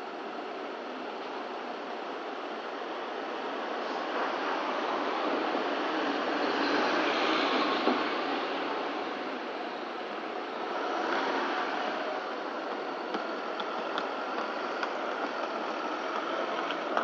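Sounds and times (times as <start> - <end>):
city street traffic hum: 0.0 - 17.0.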